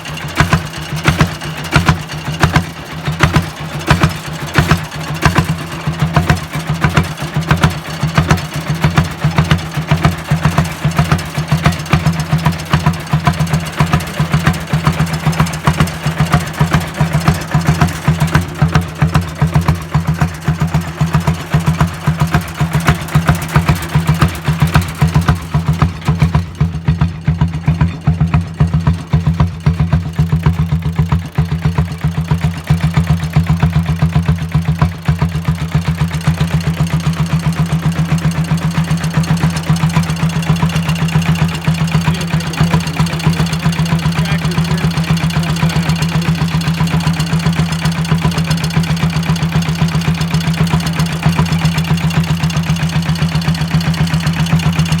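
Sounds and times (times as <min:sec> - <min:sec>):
diesel tractor engine idling: 0:00.0 - 0:55.0.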